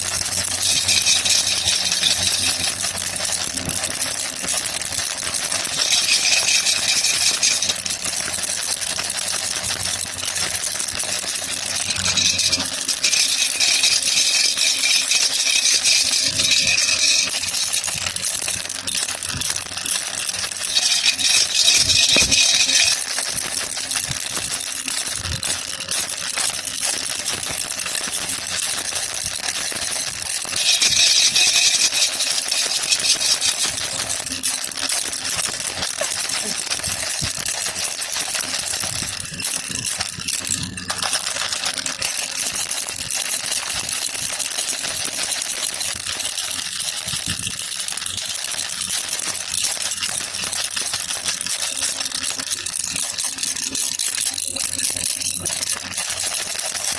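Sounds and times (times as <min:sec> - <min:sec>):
baby rattle shaken: 0:00.0 - 0:56.9.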